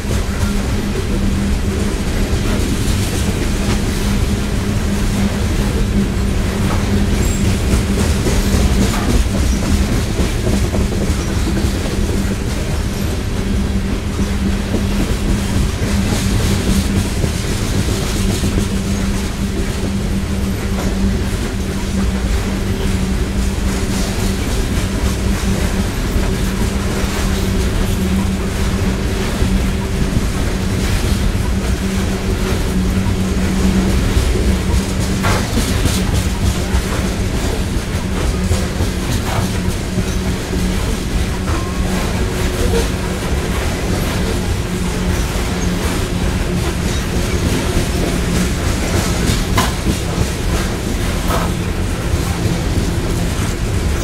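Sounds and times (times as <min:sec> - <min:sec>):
train wheels rumbling on rail: 0:00.0 - 0:54.0
wheels clattering over rail joints: 0:00.0 - 0:54.0.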